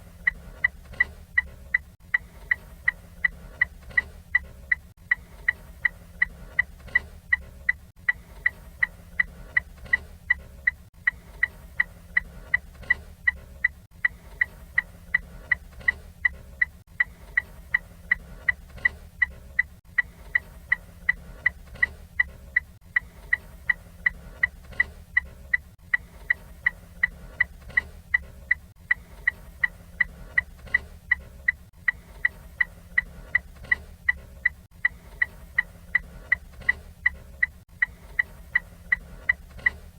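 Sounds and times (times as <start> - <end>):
turn signal ticking: 0.0 - 39.9.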